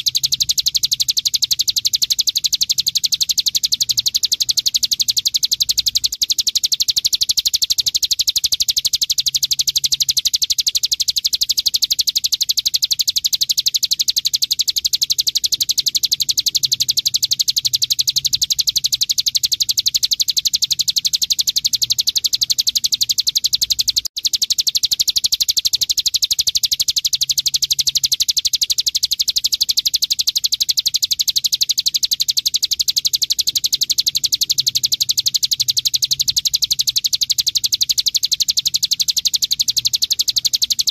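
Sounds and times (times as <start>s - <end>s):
bird rattling high chirps: 0.0s - 40.9s.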